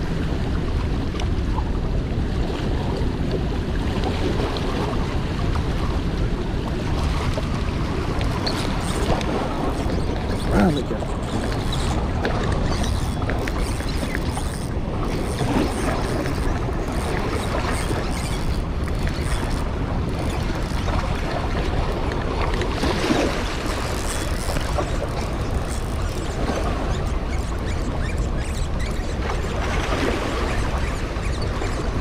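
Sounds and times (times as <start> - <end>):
rushing turbulent water: 0.0 - 32.0
wind rumble on microphone: 0.0 - 32.0.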